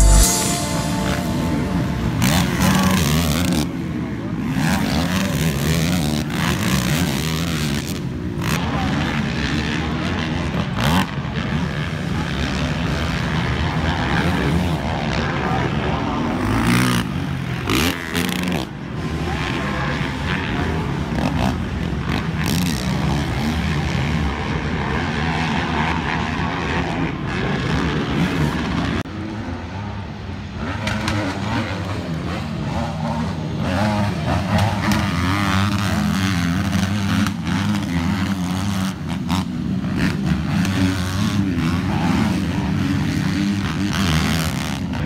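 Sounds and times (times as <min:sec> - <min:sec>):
atv engines revving: 0:03.0 - 0:45.0.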